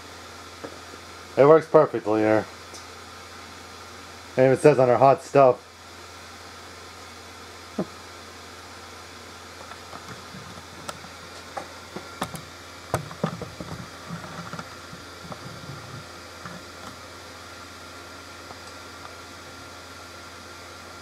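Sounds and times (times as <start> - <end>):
blower fan whirring: 0.0 - 21.0.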